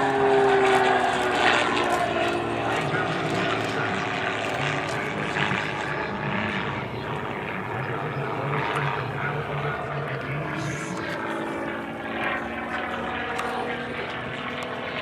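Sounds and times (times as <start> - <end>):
plane piston engine and propeller: 0.0 - 15.0.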